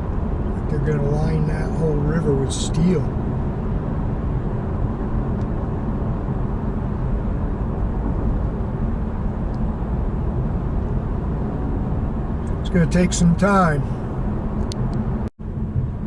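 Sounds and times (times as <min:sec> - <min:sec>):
car driving on highway: 0:00.0 - 0:16.0.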